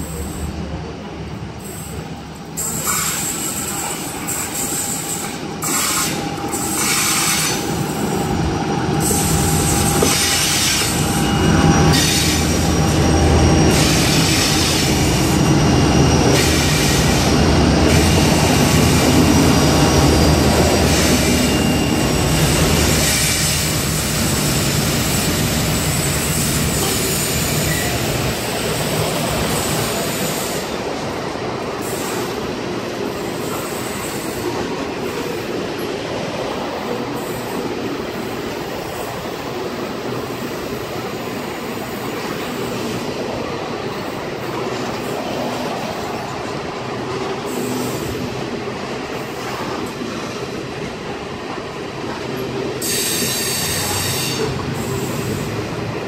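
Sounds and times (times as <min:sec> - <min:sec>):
diesel locomotive engines: 0:00.0 - 0:56.0.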